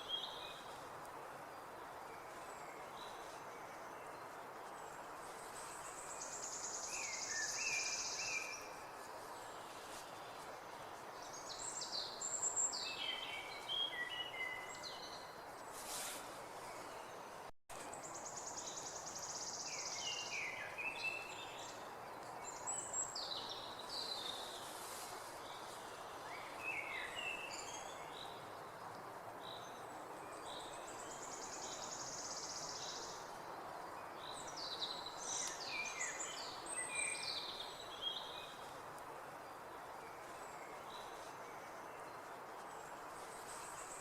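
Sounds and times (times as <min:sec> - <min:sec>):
steady background hiss: 0:00.0 - 0:44.0.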